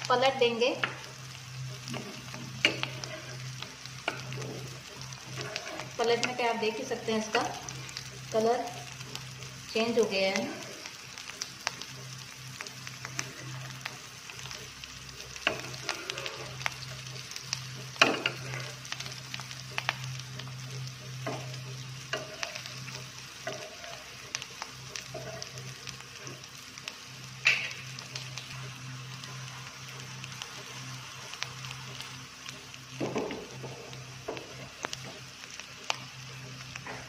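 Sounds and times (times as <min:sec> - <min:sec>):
food sizzling in oil: 0:00.0 - 0:37.0.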